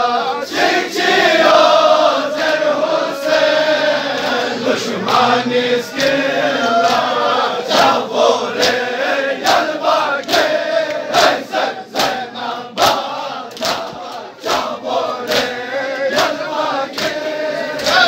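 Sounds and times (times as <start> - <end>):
men chanting together: 0.0 - 18.0
rhythmic chest-beating slaps: 0.2 - 18.0.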